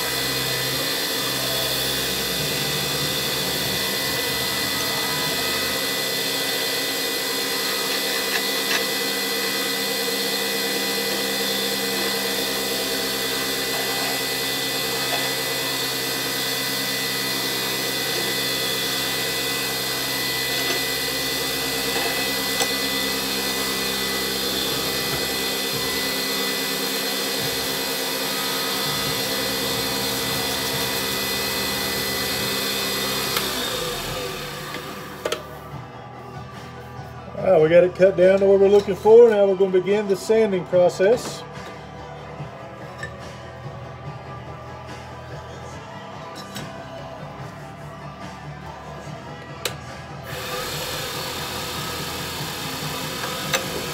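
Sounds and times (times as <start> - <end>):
turning tool cutting: 0.0 - 35.7, 37.5 - 41.7, 49.6 - 53.9
lathe running: 0.0 - 36.6, 37.2 - 46.1, 48.7 - 53.9.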